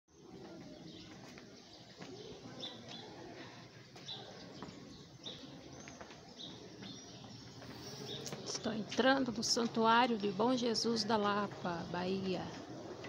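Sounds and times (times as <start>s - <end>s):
footsteps on stone paving: 0.2s - 13.0s.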